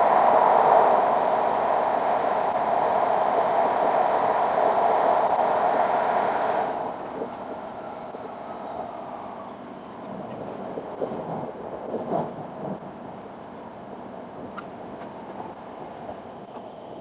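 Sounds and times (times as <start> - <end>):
train running noise inside car: 0.0 - 17.0.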